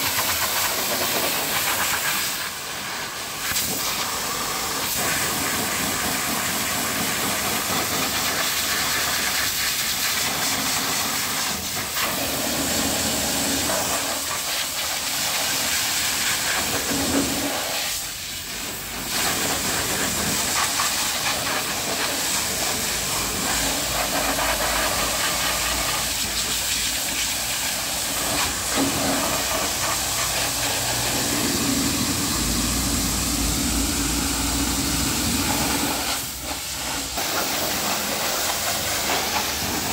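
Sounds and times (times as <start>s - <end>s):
pressure washer jet hissing: 0.0s - 39.9s.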